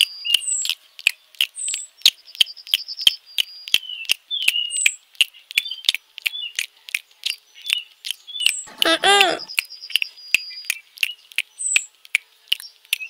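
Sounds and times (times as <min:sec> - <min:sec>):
guinea pig chirps and whistles: 0:00.0 - 0:13.0
guinea pig crunching carrot: 0:00.0 - 0:13.0.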